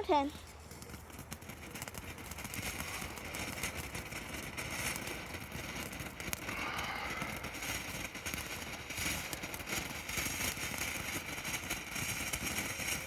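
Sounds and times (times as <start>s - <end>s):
fountain firework hissing: 0.2s - 13.0s.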